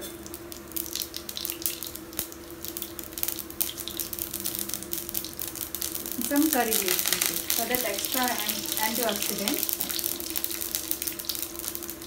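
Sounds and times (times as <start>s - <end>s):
seeds sizzling in hot oil: 0.0s - 12.0s
steady hum: 0.0s - 12.0s.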